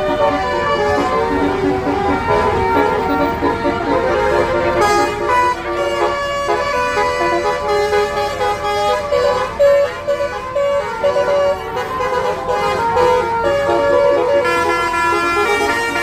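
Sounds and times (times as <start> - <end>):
musical air horn melody: 0.0 - 16.0.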